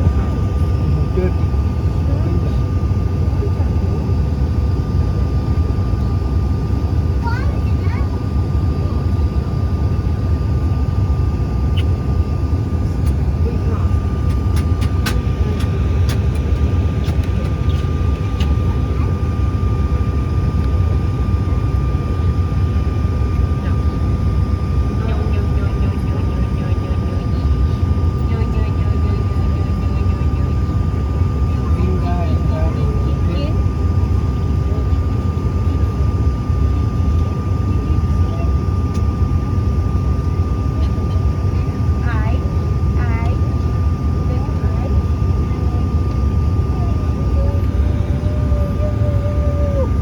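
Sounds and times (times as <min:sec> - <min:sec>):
jet engine low rumble: 0:00.0 - 0:50.0
thin steady whine: 0:00.0 - 0:50.0.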